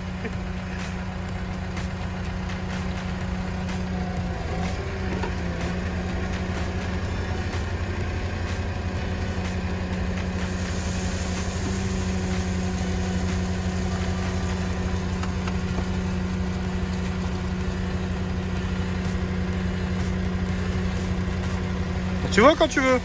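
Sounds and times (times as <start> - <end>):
dumper engine running: 0.0 - 23.0.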